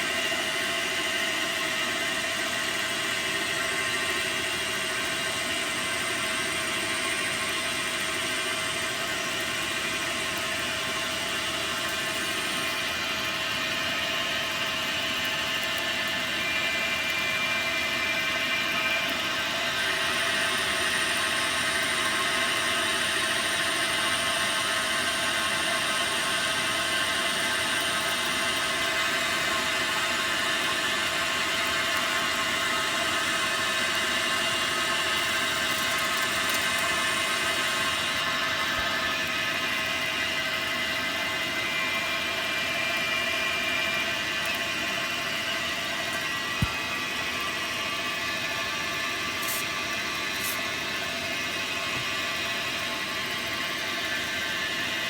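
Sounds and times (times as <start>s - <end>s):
lathe motors whirring: 0.0s - 55.0s.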